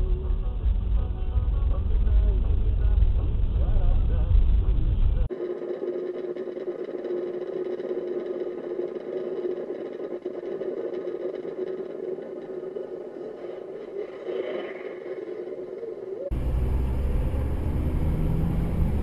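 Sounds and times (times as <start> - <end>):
car driving drone: 0.0 - 5.5, 6.6 - 19.0.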